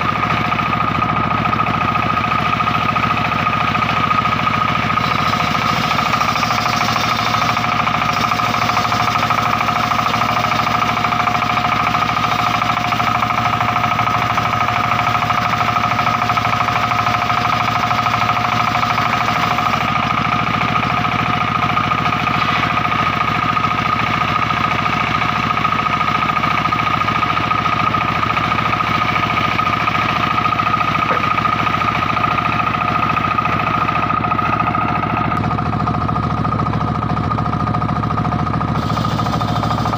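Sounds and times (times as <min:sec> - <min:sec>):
engine knocking: 0:00.0 - 0:39.9
saw blade whine: 0:00.0 - 0:39.9.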